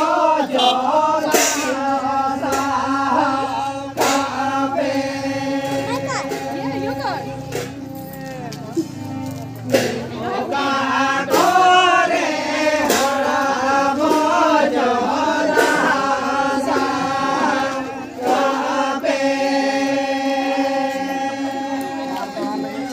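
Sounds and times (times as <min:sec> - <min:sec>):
men singing together: 0:00.0 - 0:08.0, 0:09.8 - 0:22.9
drum strikes: 0:00.0 - 0:21.2.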